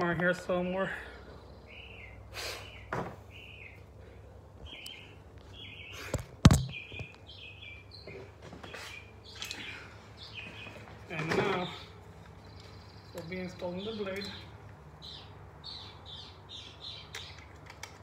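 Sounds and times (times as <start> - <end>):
small bird chirping: 1.3 - 3.9, 4.6 - 17.6.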